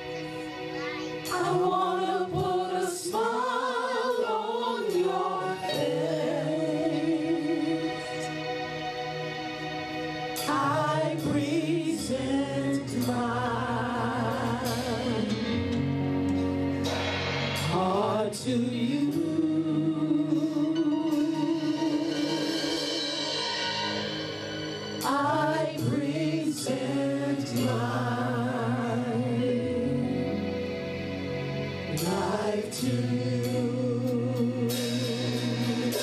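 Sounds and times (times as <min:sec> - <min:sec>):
drums: 0:00.0 - 0:36.0
keyboard chords: 0:00.0 - 0:36.0
lead voice singing: 0:01.2 - 0:08.5, 0:10.4 - 0:16.2, 0:17.5 - 0:24.2, 0:25.0 - 0:30.9, 0:31.9 - 0:36.0
backing vocalists singing: 0:01.2 - 0:08.6, 0:10.4 - 0:16.2, 0:17.6 - 0:24.2, 0:25.0 - 0:30.8, 0:31.9 - 0:36.0.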